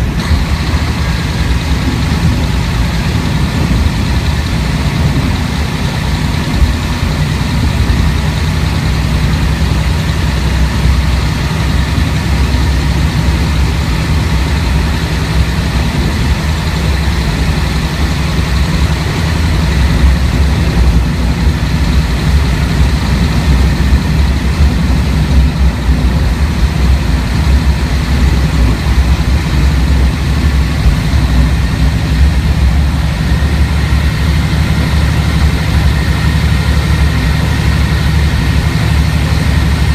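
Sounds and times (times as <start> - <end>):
railcar diesel engine droning: 0.0 - 39.9.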